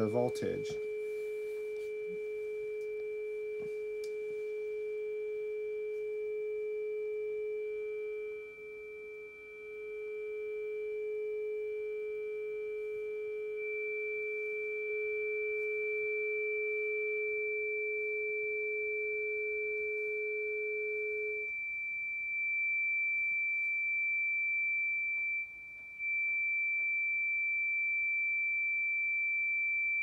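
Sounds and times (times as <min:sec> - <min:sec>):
high sine-wave test tone: 0:00.0 - 0:30.0
low sine-wave test tone: 0:00.0 - 0:30.0.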